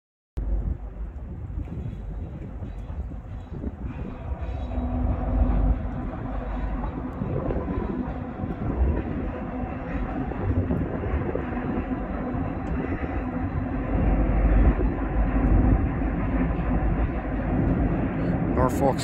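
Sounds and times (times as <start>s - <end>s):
freight train rumbling over bridge: 0.4s - 19.0s.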